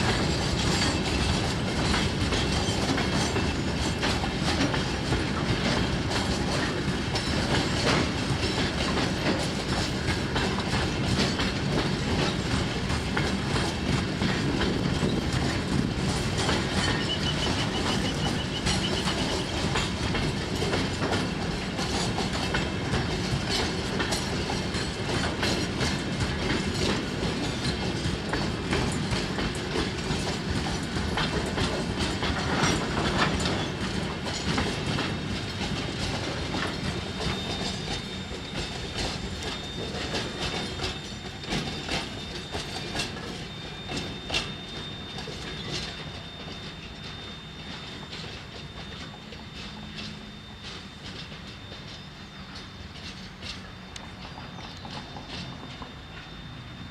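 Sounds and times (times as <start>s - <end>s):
train wheels clanking over rail joints: 0.0s - 56.9s.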